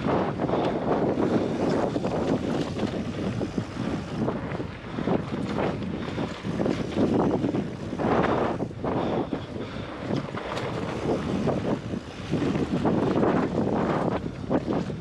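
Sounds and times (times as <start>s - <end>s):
bike rolling on dirt trail: 0.0s - 15.0s
wind buffeting microphone: 0.0s - 15.0s.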